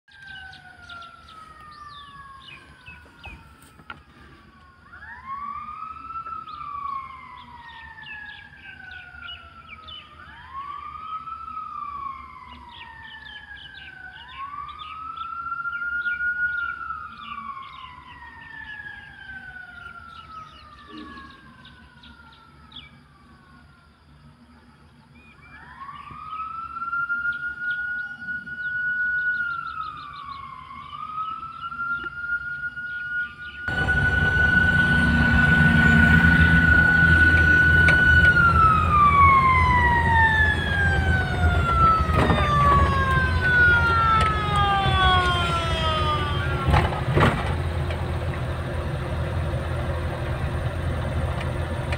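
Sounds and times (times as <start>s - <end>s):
siren wailing: 0.1s - 23.8s, 25.3s - 51.9s.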